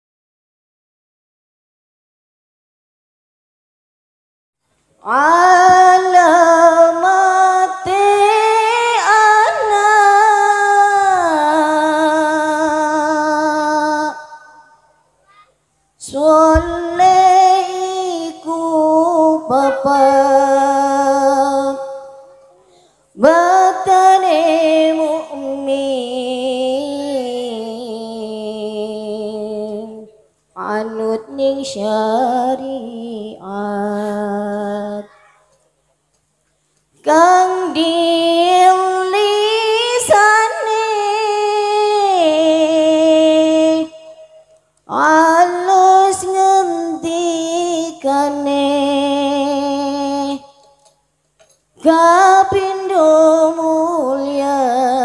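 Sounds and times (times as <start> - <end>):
woman singing into a microphone: 5.0 - 15.0, 16.0 - 22.6, 23.2 - 35.2, 37.0 - 50.8, 51.8 - 55.0.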